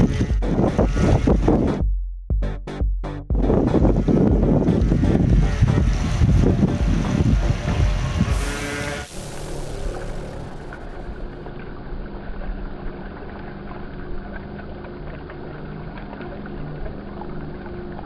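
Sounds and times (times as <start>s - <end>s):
model speedboat motor hum: 0.0s - 1.8s, 3.4s - 18.0s
wind and water rumble: 0.0s - 1.9s, 3.3s - 18.0s.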